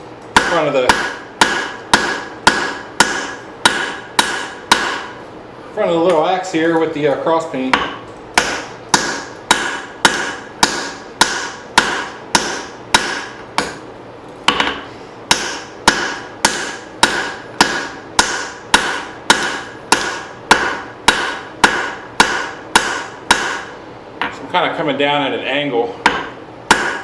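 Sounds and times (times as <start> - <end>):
hammer striking hot steel: 0.3 - 5.2, 7.7 - 13.8, 14.5 - 24.4, 26.0 - 27.0.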